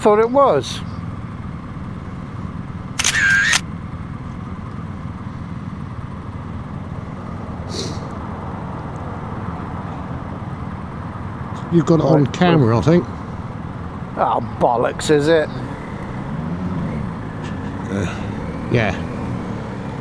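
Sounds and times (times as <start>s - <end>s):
motorcycle engine drone: 0.0s - 20.0s
wind and road noise: 0.0s - 20.0s.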